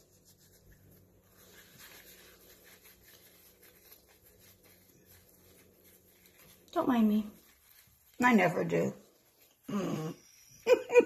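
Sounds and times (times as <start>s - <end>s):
damp paper towel rustling: 0.0s - 11.0s.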